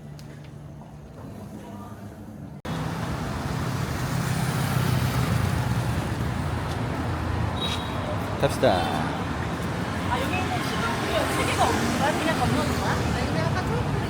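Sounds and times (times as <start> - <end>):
street traffic noise: 0.0 - 14.0
passing vehicles engine rumble: 0.5 - 14.0.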